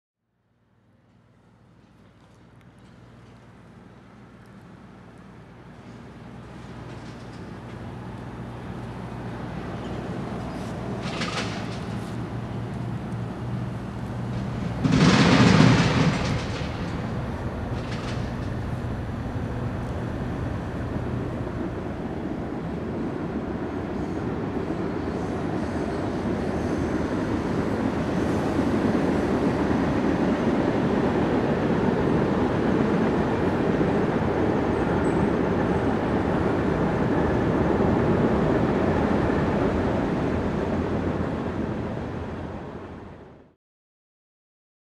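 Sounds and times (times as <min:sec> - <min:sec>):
vehicle rumble: 0:00.8 - 0:43.3.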